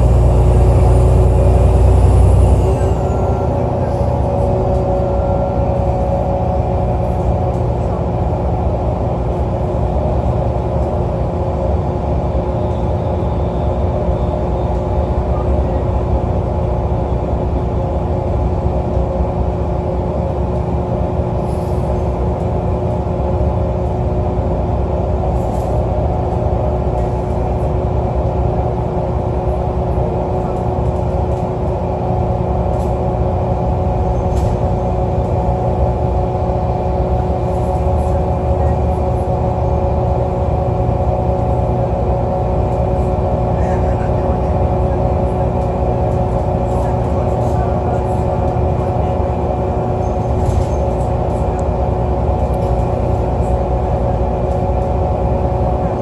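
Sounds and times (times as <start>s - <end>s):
bus engine drone with whine: 0.0s - 56.0s.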